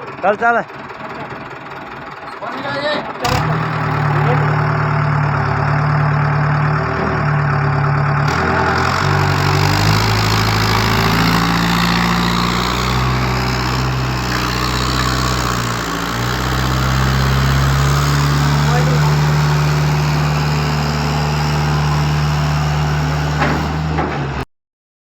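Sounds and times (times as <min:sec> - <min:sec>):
vehicle engine revving: 0:03.2 - 0:24.4.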